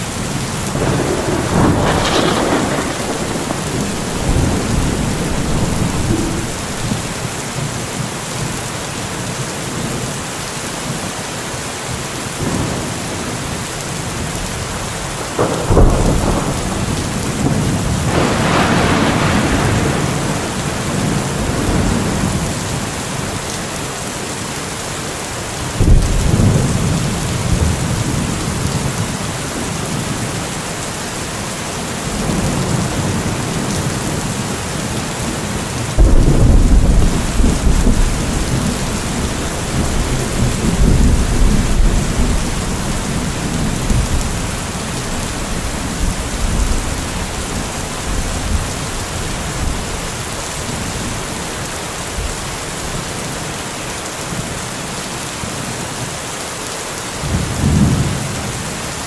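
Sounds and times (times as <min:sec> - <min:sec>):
thunder claps and rumble: 0:00.0 - 0:08.6, 0:12.4 - 0:23.7, 0:25.5 - 0:31.1, 0:32.0 - 0:53.0, 0:57.2 - 0:59.0
steady rain falling: 0:00.0 - 0:59.0.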